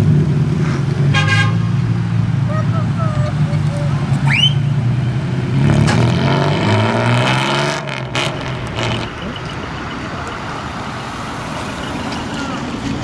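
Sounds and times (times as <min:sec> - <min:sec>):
vehicle engine accelerating: 0:01.7 - 0:13.0.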